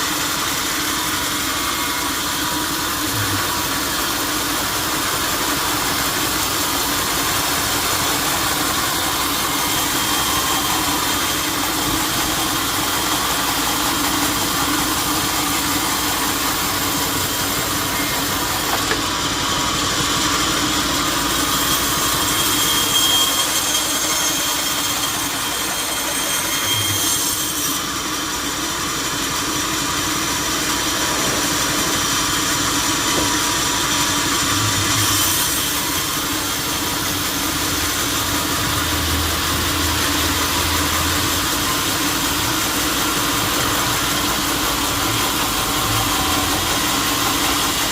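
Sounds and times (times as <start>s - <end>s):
sawmill machinery drone: 0.0s - 47.9s.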